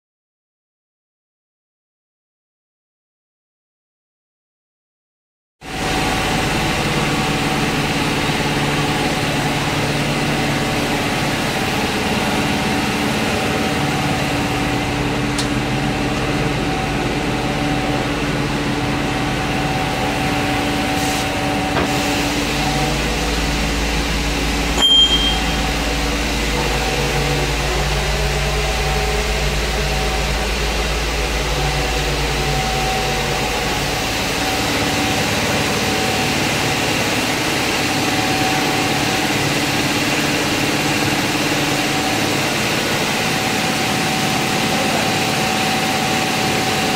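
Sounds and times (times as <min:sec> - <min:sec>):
machinery humming: 0:05.6 - 0:46.9.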